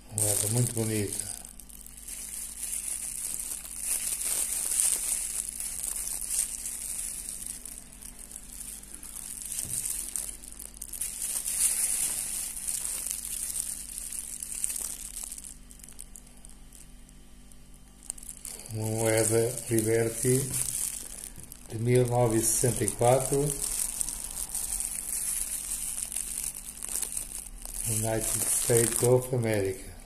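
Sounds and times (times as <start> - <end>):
plastic glove crinkling: 0.0 - 30.0.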